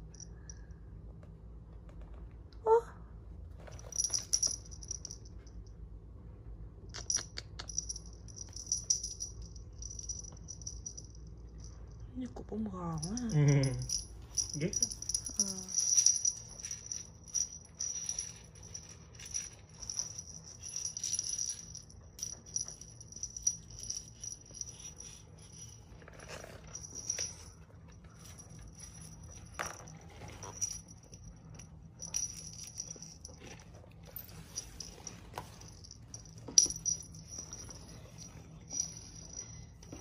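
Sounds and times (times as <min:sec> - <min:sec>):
small bell jingling: 0:03.7 - 0:05.7, 0:07.0 - 0:12.1, 0:12.8 - 0:40.0.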